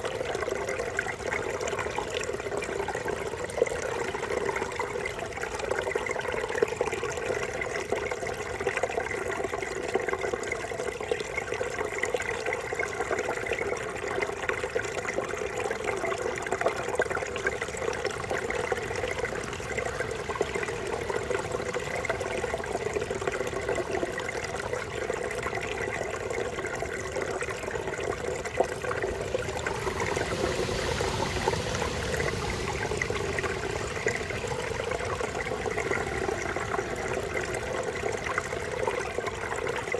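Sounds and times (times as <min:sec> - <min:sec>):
brook babbling and gurgling: 0:00.0 - 0:39.9.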